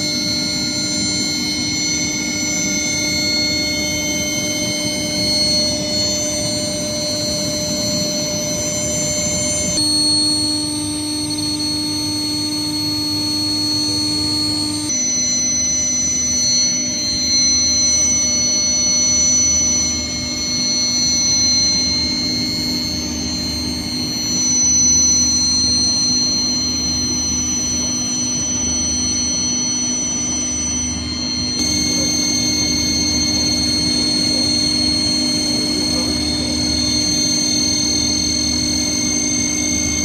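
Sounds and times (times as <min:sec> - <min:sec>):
induction furnace electrical whine: 0:00.0 - 0:40.0
mechanical hum: 0:00.0 - 0:40.0.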